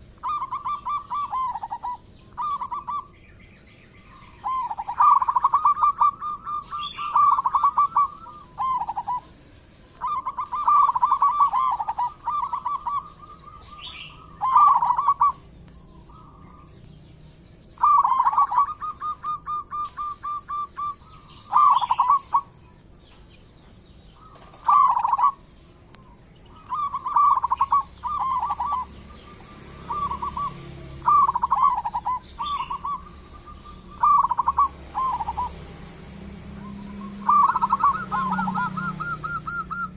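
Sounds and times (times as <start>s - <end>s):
dove cooing: 0.0s - 3.2s, 4.0s - 16.9s, 17.7s - 22.6s, 24.2s - 39.9s.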